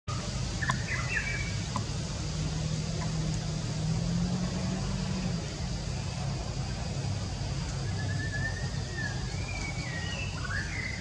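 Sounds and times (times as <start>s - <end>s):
engine humming: 0.1s - 11.0s.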